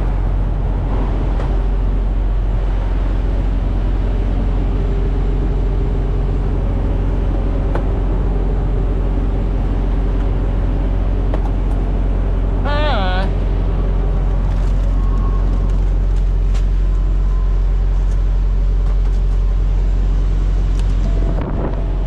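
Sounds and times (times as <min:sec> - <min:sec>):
diesel engines idling: 0:00.0 - 0:22.0.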